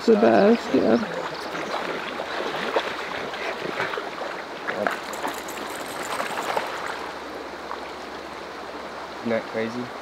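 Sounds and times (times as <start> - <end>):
river running over stones: 0.0 - 10.0
water splashes: 0.0 - 10.0.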